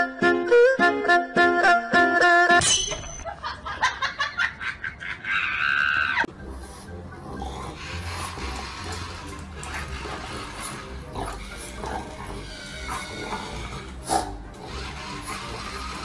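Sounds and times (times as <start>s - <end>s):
plucked-string background music: 0.0s - 3.2s, 6.3s - 16.0s.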